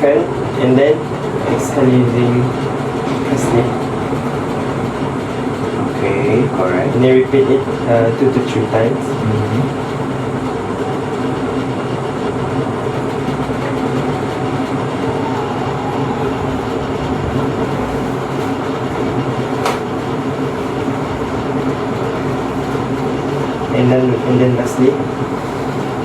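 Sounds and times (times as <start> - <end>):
mechanical hum with rushing noise: 0.0 - 26.0.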